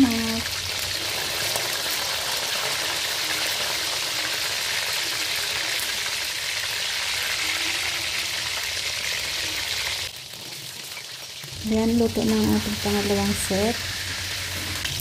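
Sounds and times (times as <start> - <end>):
chicken wings sizzling in hot oil: 0.0 - 15.0.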